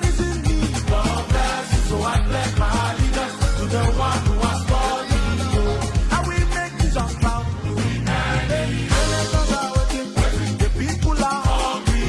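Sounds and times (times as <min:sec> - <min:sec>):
music with bass-heavy beat: 0:00.0 - 0:12.0.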